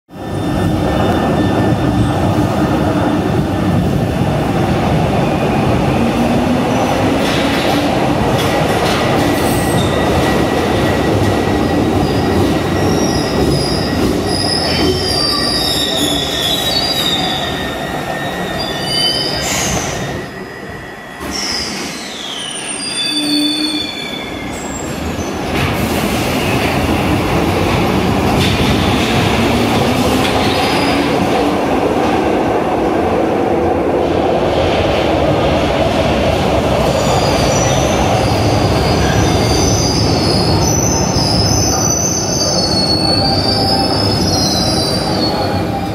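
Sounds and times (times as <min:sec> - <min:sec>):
train wheels rumbling on rail: 0:00.1 - 0:20.6, 0:21.2 - 0:45.9.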